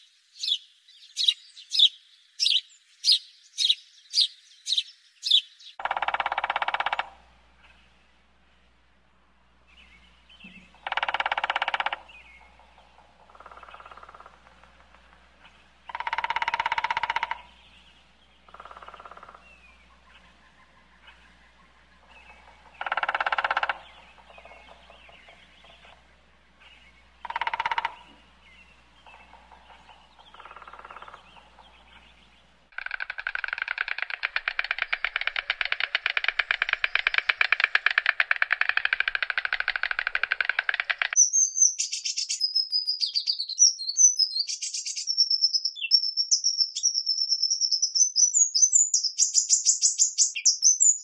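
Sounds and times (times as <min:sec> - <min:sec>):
bird calls: 0:00.0 - 0:08.8, 0:09.5 - 0:51.0.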